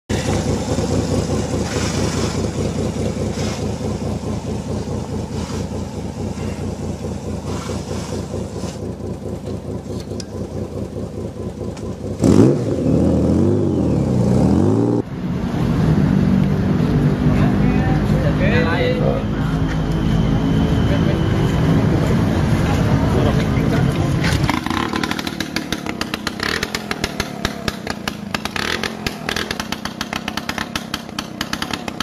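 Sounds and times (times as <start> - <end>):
motorcycle engine idling: 0.1 - 14.4, 17.4 - 32.0
motorcycle engine revving: 0.1 - 32.0
steady engine: 0.1 - 32.0.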